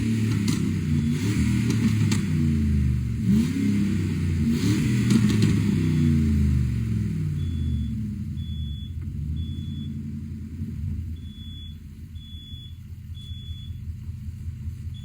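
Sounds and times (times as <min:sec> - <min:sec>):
car engine rumbling idle: 0:00.0 - 0:15.0.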